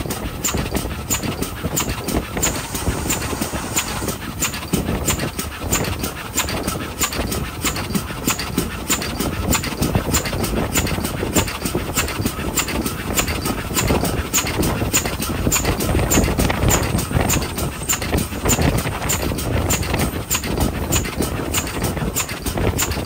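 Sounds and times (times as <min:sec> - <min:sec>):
steam locomotive exhaust beat: 0:00.0 - 0:23.0.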